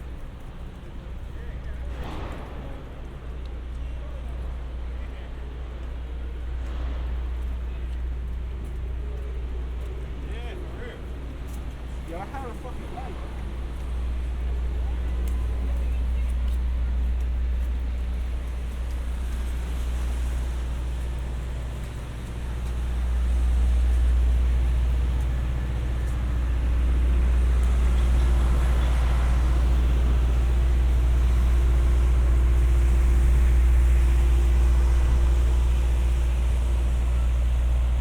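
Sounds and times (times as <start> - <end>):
faint engine hum: 0.0 - 38.0
low rumble of street traffic: 0.0 - 38.0.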